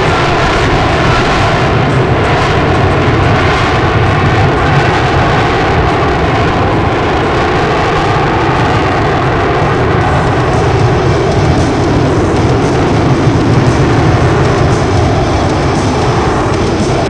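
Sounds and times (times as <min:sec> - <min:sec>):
jet engine roar while hovering: 0:00.0 - 0:17.0.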